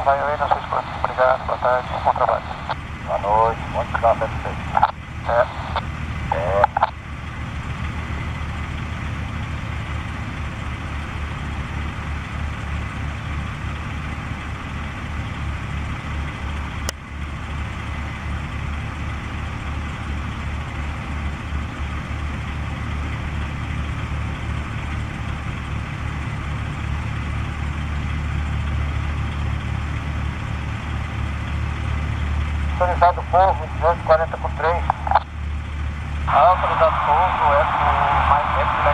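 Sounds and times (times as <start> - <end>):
light aircraft engine running: 0.0 - 38.9.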